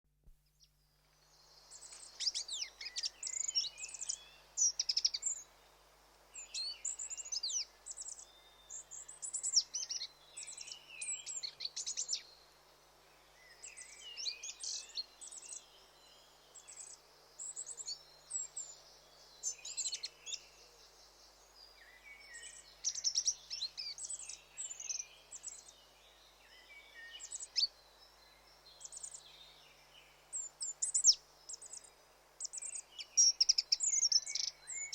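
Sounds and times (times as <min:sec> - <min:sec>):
faint steady hiss: 0:00.1 - 0:34.9.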